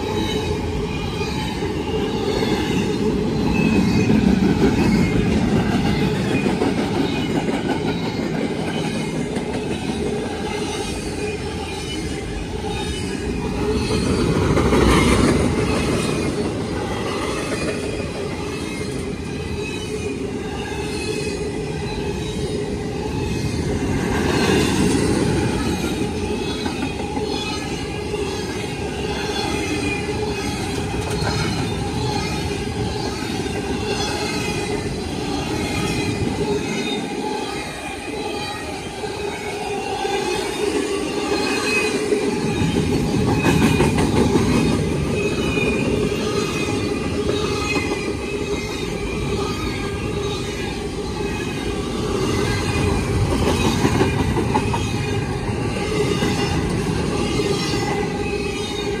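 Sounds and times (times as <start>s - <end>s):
train wheels rumbling on rails: 0.0s - 59.0s
high wheel squeal: 10.1s - 59.0s.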